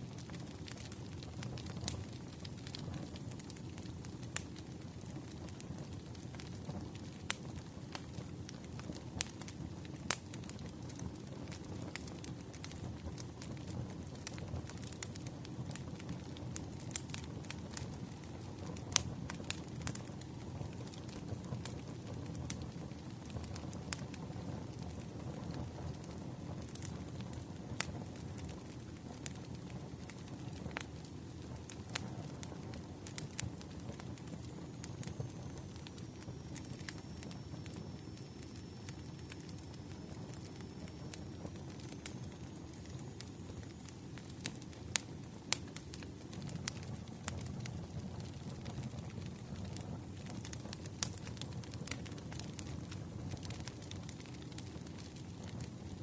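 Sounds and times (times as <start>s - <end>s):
log fire crackling: 0.0s - 56.0s
burning wood popping: 0.1s - 56.0s.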